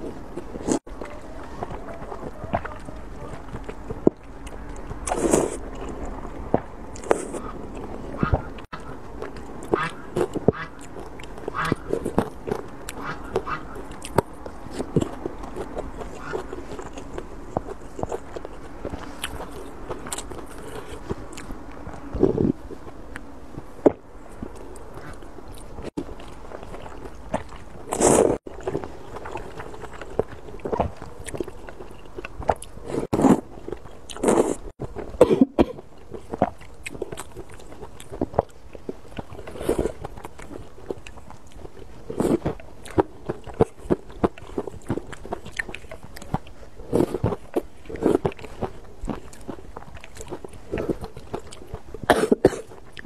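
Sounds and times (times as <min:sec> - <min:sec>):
chewing mouth sounds: 0:00.0 - 0:53.0.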